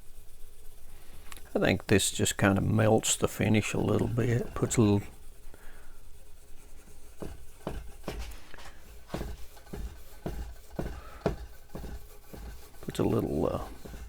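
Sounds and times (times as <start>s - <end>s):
steel wool scrubbing wood: 0.2s - 14.0s.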